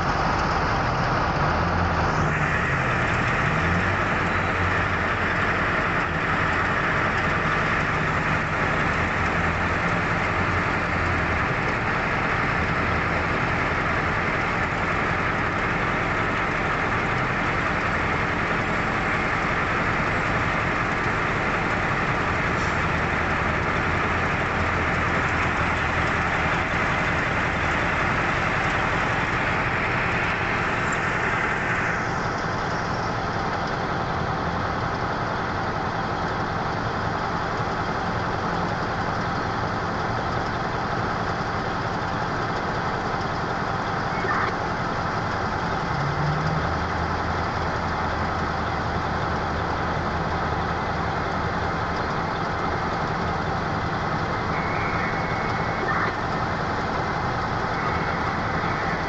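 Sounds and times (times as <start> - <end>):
large diesel engine running: 0.0 - 59.0.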